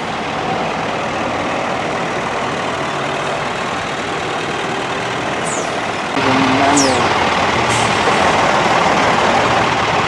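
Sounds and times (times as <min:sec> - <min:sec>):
cars passing: 0:00.0 - 0:10.0
truck engines running: 0:00.0 - 0:10.0.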